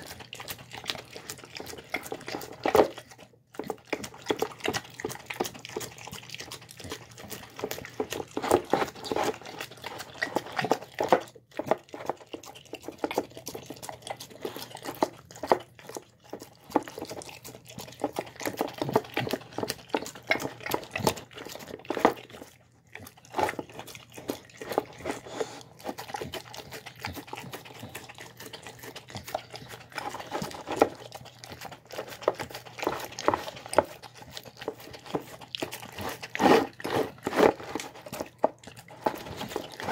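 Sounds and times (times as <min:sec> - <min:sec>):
dog eating wet food: 0:00.0 - 0:39.9.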